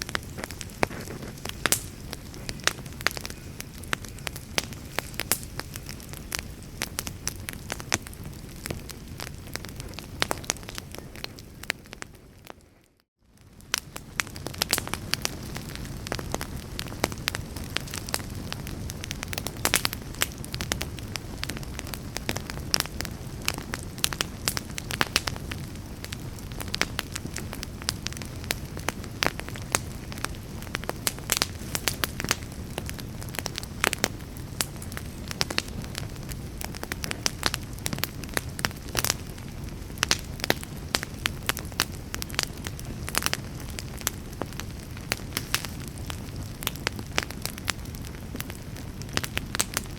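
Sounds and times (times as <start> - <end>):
fire crackling and popping: 0.0 - 49.9
low rumble of flames: 0.0 - 49.9.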